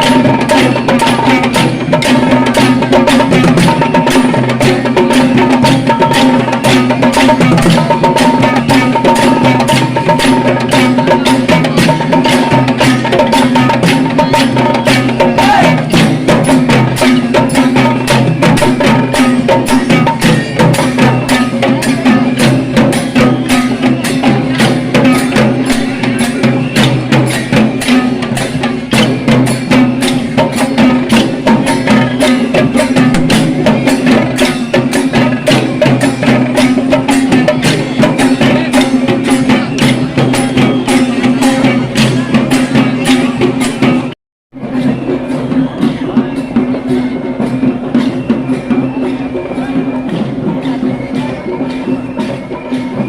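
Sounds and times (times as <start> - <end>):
fast procession drumming: 0.0 - 53.0.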